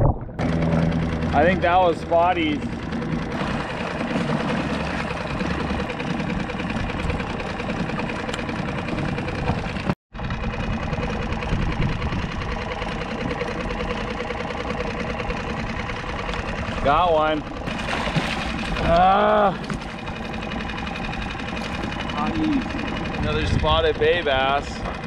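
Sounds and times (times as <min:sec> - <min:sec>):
outboard motor idling: 0:00.4 - 0:25.0.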